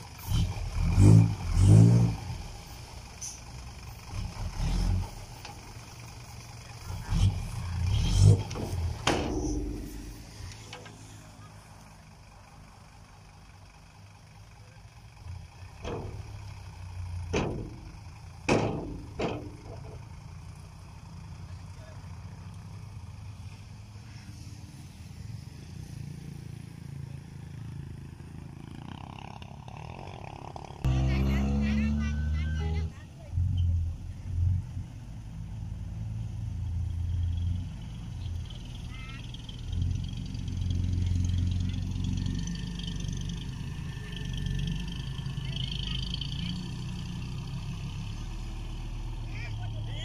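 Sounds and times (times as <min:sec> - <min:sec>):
dump truck diesel engine: 0:00.0 - 0:50.0
tractor diesel engine: 0:00.0 - 0:50.0.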